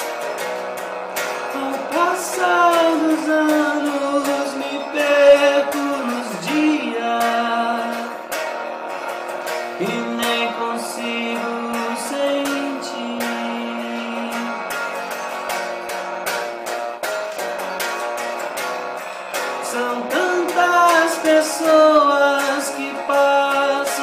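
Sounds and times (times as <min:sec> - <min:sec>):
guitar sliding notes: 0:00.0 - 0:24.0.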